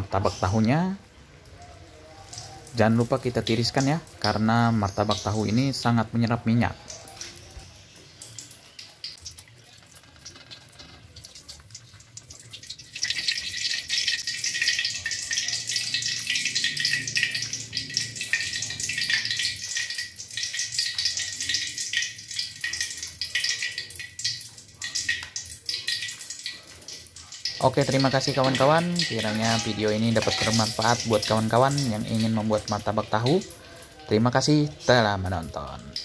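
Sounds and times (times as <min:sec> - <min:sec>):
hot oil sizzling and crackling: 0:00.0 - 0:36.0.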